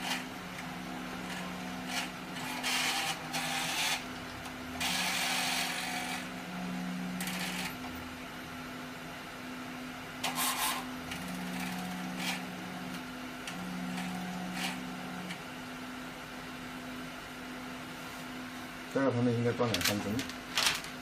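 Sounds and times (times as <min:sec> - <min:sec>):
printer motor whirring: 0:00.0 - 0:17.7
steady hum: 0:00.0 - 0:21.0.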